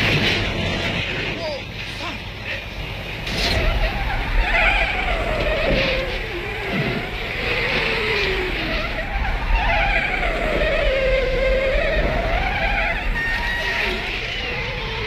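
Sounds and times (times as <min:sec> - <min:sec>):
vehicle engine revving: 0:02.8 - 0:15.0.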